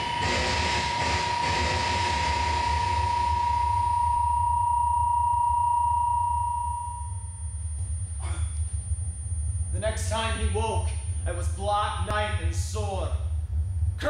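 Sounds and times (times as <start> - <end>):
low rumble: 0.0 - 14.0
steady electronic tone: 0.0 - 14.0.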